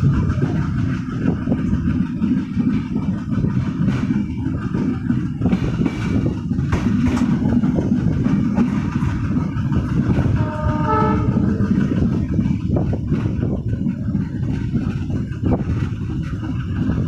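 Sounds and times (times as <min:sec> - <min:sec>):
train rumbling on track: 0:00.0 - 0:17.0
train wheels clattering: 0:00.0 - 0:17.0.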